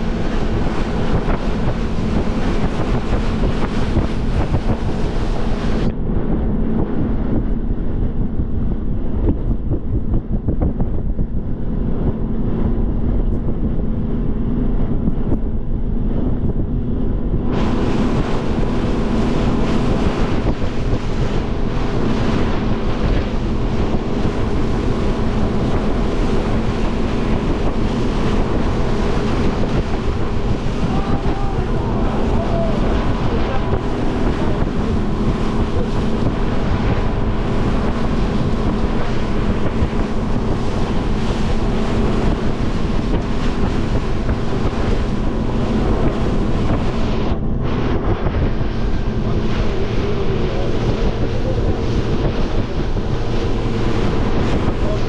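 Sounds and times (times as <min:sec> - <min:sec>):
motorboat engine drone: 0:00.0 - 0:55.0
water rushing along hull: 0:00.0 - 0:55.0
wind buffeting microphone: 0:00.0 - 0:55.0.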